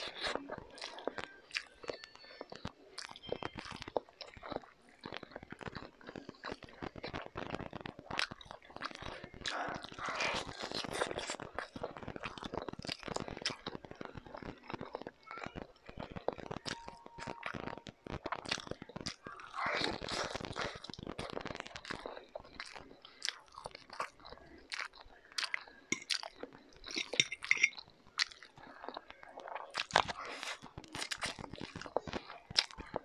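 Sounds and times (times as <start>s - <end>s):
person chewing with wet mouth clicks: 0.0s - 33.0s.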